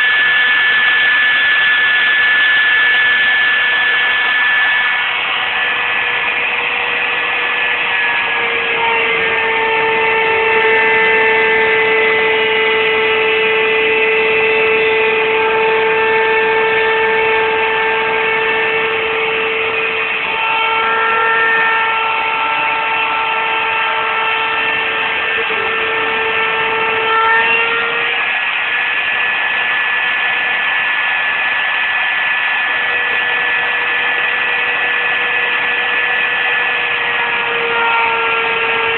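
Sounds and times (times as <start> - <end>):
cnc router whining hiss: 0.0 - 38.9.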